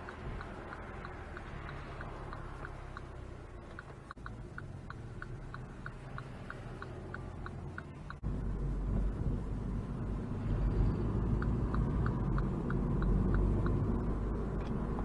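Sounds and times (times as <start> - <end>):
car engine hum: 0.0 - 15.0
turn signal ticking: 0.0 - 15.0.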